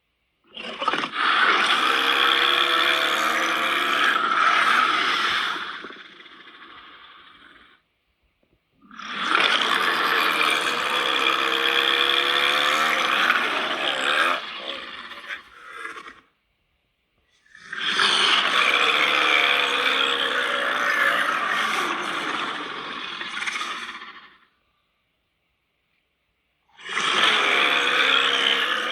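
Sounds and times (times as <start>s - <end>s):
monster rasping vocal calls: 0.5s - 7.8s, 8.8s - 16.3s, 17.6s - 24.4s, 26.8s - 28.9s.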